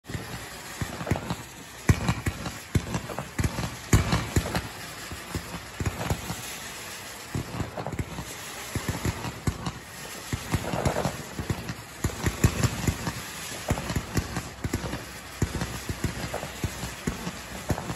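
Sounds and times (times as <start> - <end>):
fireworks crackling and banging: 0.0 - 17.9.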